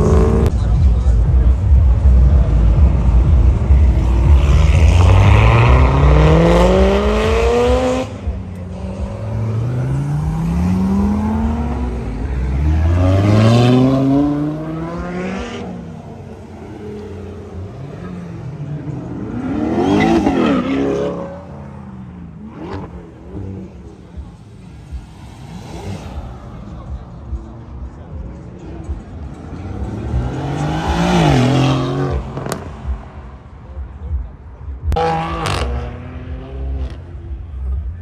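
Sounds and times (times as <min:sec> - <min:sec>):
cars accelerating hard: 0:00.0 - 0:34.1, 0:34.7 - 0:38.0
deep engine rumble: 0:00.0 - 0:38.0.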